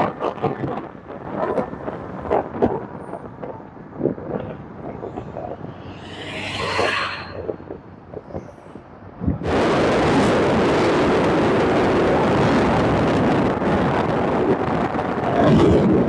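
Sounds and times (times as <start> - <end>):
electric scooter road noise: 0.0 - 16.0
wind gusting over microphone: 0.0 - 16.0.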